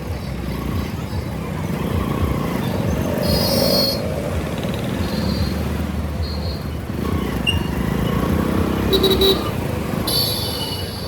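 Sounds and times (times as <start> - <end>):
motorcycle engine and road rumble: 0.0 - 11.0.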